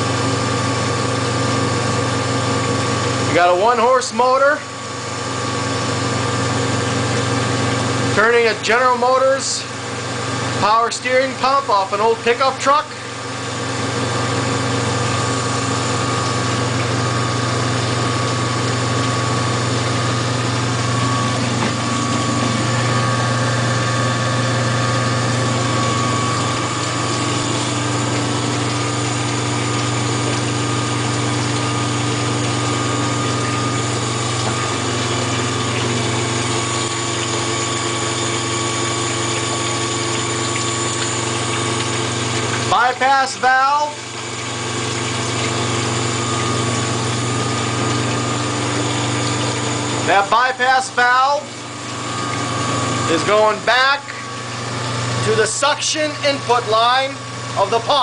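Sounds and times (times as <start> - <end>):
electric motor humming: 0.0 - 58.0.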